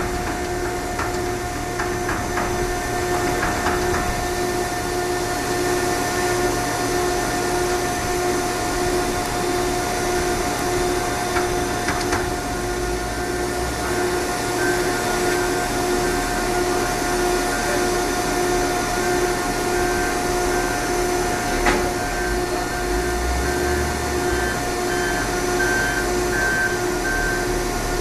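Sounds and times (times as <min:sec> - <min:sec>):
machinery humming with pulsing tone: 0:00.0 - 0:28.0.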